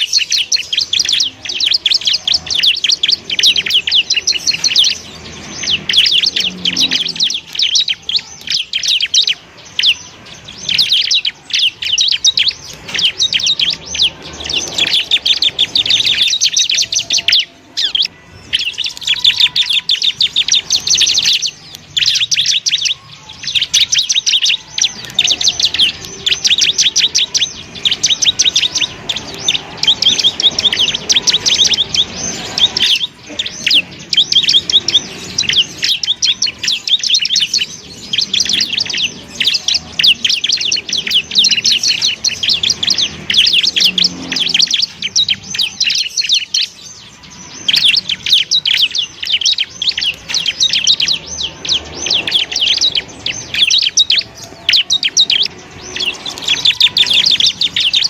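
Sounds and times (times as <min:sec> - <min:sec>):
bird chattering trill: 0:00.0 - 0:58.0.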